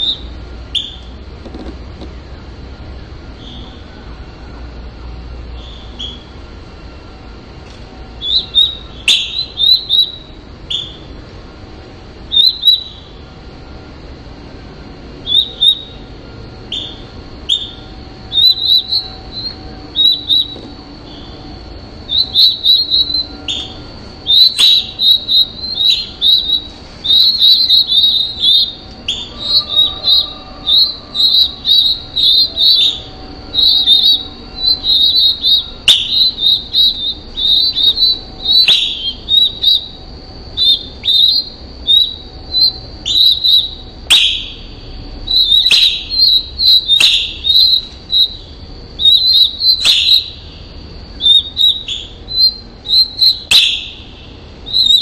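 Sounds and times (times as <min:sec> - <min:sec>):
down-slurred bird whistles: 0:00.0 - 0:01.2, 0:03.4 - 0:04.0, 0:05.5 - 0:06.4, 0:08.2 - 0:11.2, 0:12.2 - 0:13.2, 0:15.2 - 0:55.0
songbird chirps: 0:00.0 - 0:01.2, 0:03.3 - 0:04.3, 0:05.1 - 0:11.2, 0:12.2 - 0:13.3, 0:15.1 - 0:55.0.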